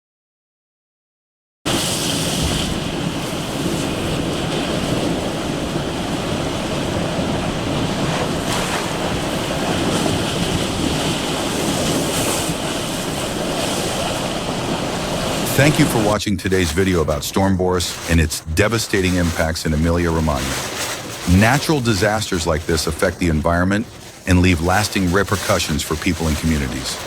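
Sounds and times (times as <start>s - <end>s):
floodwater rushing: 1.7s - 27.0s.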